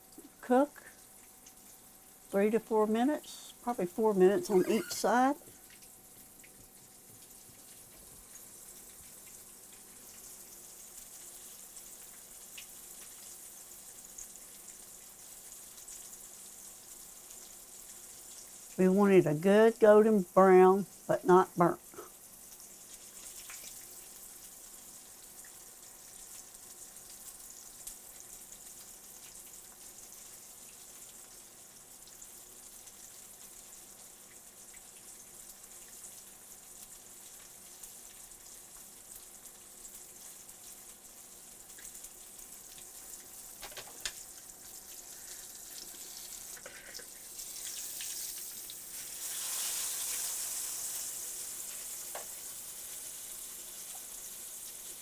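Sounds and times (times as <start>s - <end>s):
steaks sizzling in hot oil: 0.0s - 55.0s.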